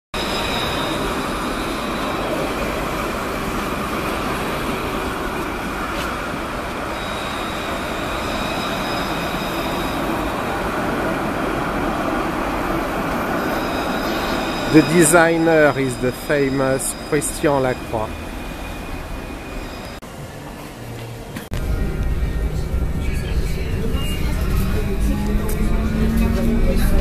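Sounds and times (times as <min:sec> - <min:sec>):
thin high whine: 0:00.2 - 0:27.0
tram rolling rumble: 0:00.2 - 0:27.0.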